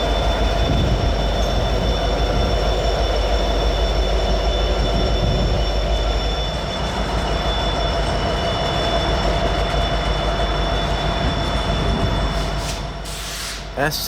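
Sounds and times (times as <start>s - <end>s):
freight train rumbling past: 0.0s - 14.0s
train wheels squealing: 0.0s - 14.0s.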